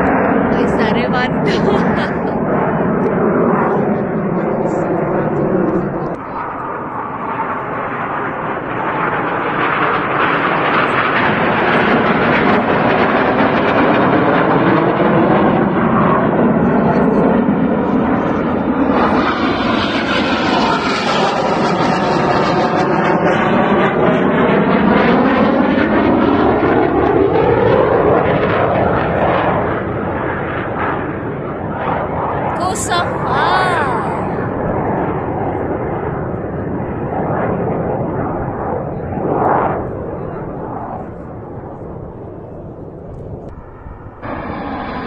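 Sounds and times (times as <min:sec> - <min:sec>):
jet aircraft passing overhead: 0:00.0 - 0:32.5, 0:34.3 - 0:45.0.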